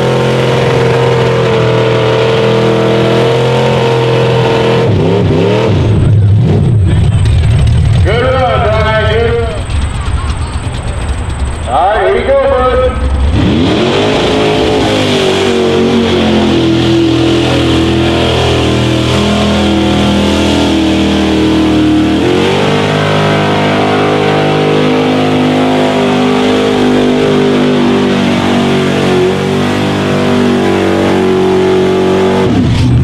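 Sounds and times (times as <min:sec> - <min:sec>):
engine revving high: 0:00.0 - 0:33.0.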